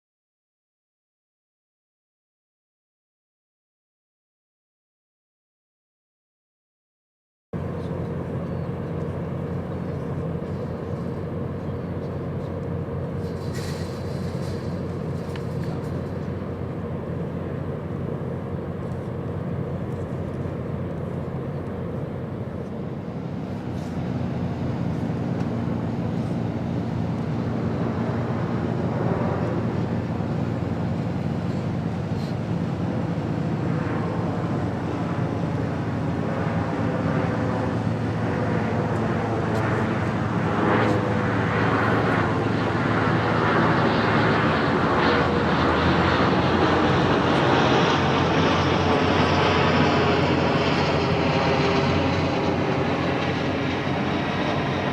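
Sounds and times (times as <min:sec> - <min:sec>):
engine droning: 0:07.6 - 0:54.9.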